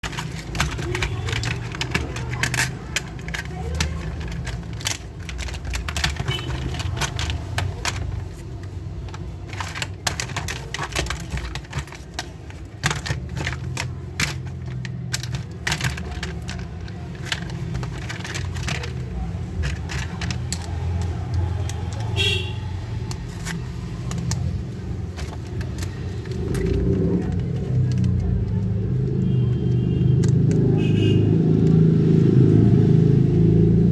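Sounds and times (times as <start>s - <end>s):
plastic toy parts clicking: 0.0s - 31.9s.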